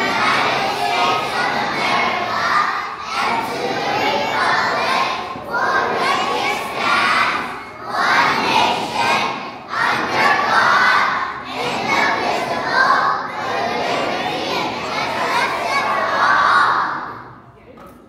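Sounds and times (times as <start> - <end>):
children shouting together: 0.0 - 17.4.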